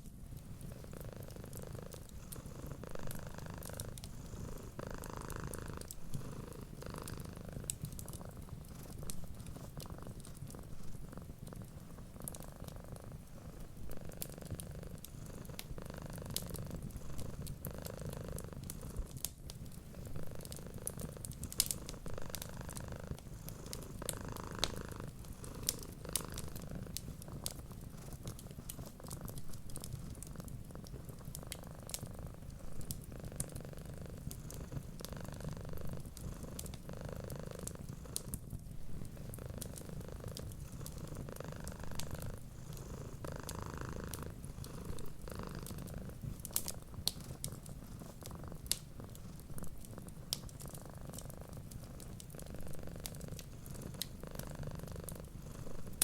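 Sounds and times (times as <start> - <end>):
cat purring: 0.0 - 56.0
fireplace crackling: 0.0 - 56.0.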